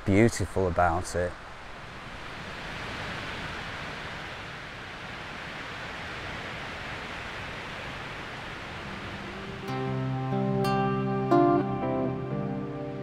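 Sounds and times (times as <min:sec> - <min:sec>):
wind through trees: 0:00.0 - 0:13.0.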